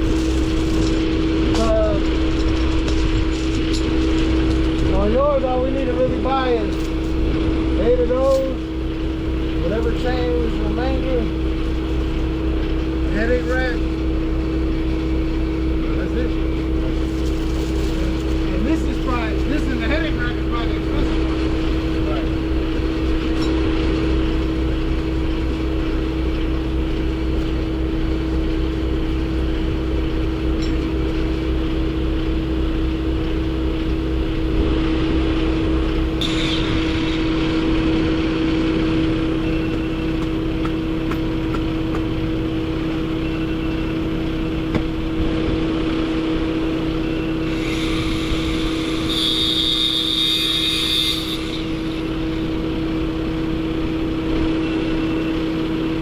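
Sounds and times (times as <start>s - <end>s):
vehicle engine running: 0.0s - 49.0s, 51.5s - 56.0s.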